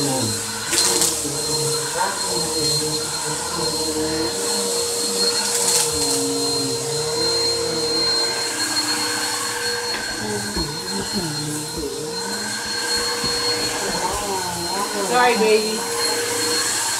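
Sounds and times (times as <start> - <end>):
vacuum cleaner running: 0.0 - 16.9.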